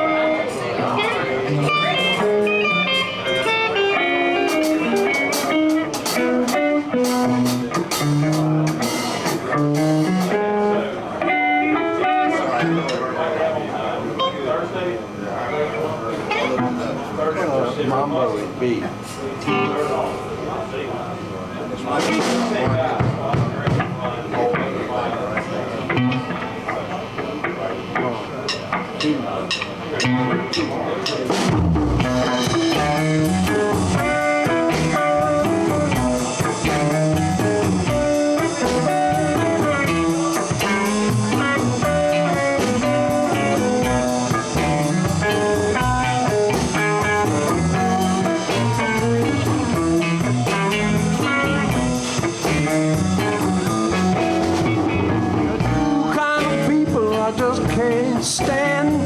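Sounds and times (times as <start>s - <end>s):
electric guitar lead: 0.0s - 14.5s, 15.6s - 17.2s, 18.5s - 19.9s, 22.0s - 59.0s
live blues band playing: 0.0s - 14.5s, 15.3s - 17.7s, 18.5s - 20.4s, 21.6s - 59.0s.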